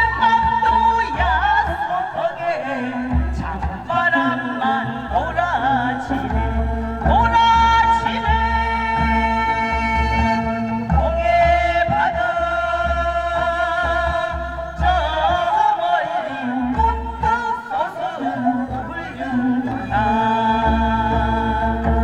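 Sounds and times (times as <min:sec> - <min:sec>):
person singing folk song: 0:00.0 - 0:22.0.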